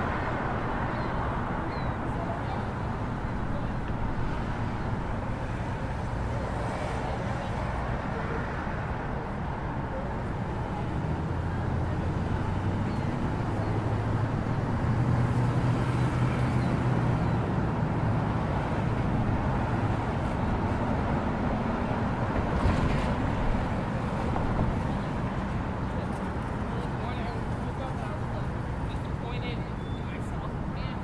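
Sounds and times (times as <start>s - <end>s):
passing vehicle rush: 0.0s - 31.0s
traffic rumble: 0.0s - 31.0s.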